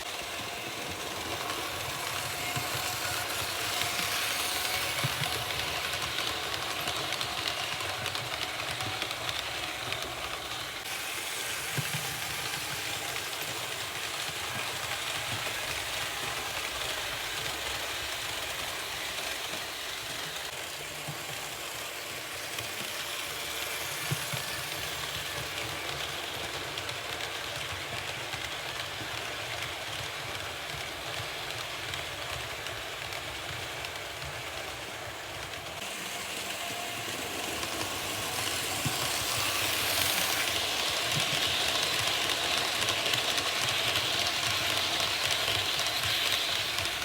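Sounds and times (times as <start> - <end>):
model train motor whirring: 0.0 - 47.0
wheels clicking on track: 0.0 - 47.0.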